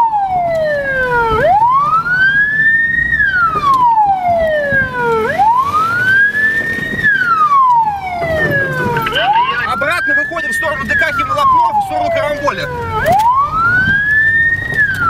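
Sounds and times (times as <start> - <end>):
low rumble of moving car: 0.0 - 15.0
police siren wailing: 0.0 - 15.0.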